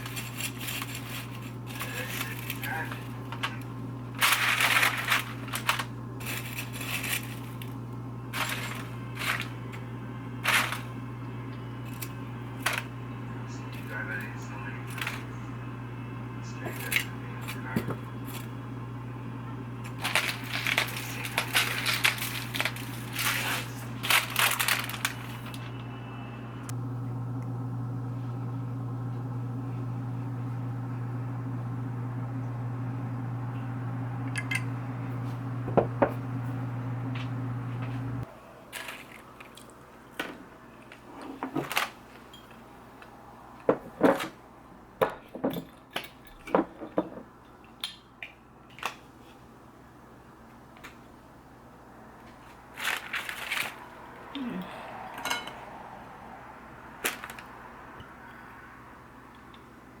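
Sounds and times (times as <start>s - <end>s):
kitchen appliance humming: 0.0s - 44.8s, 49.6s - 60.0s.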